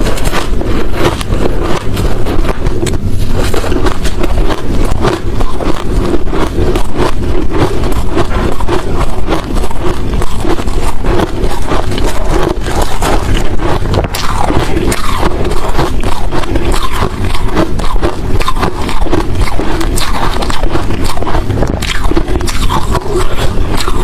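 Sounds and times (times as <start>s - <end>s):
person chewing crushed ice: 0.0s - 24.0s.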